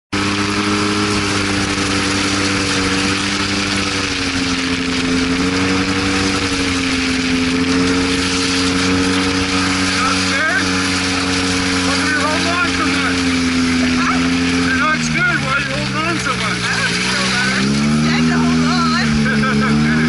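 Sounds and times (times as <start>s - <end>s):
vehicle engine running: 0.0s - 20.0s
wind and terrain noise: 0.1s - 20.0s.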